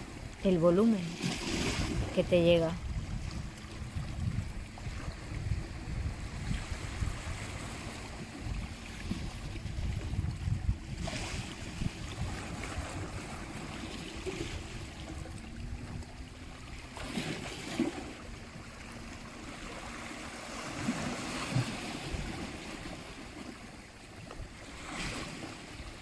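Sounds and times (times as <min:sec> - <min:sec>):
sea waves washing: 0:00.0 - 0:26.0.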